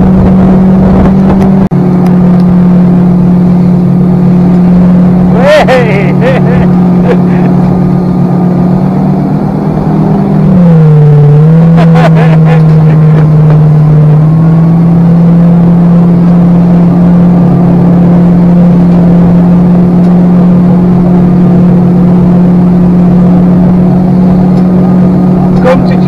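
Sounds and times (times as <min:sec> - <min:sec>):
speedboat engine drone: 0:00.0 - 0:26.0
water rushing along hull: 0:00.0 - 0:26.0.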